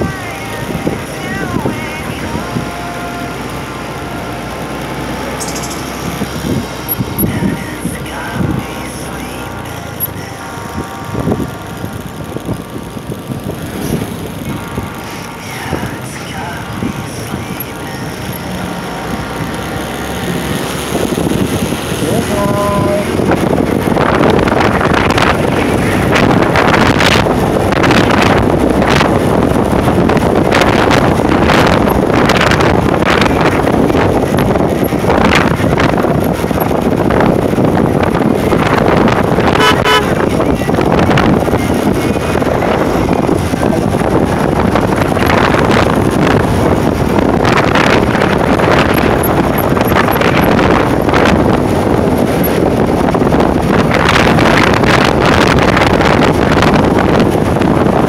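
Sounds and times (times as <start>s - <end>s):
motorcycle running noise: 0.0s - 58.0s
road noise: 0.0s - 58.0s
wind buffeting microphone: 0.0s - 58.0s.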